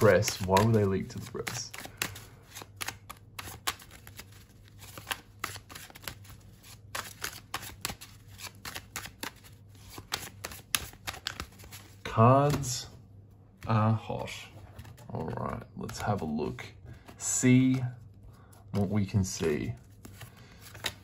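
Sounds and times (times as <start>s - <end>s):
cards being shuffled: 0.0s - 21.0s.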